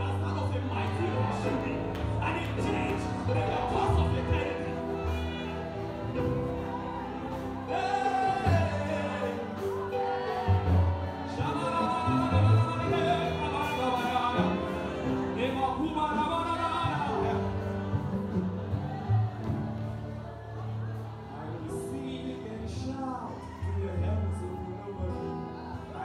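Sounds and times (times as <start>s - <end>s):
band with low bass notes: 0.0s - 26.0s
gospel singing: 0.0s - 26.0s.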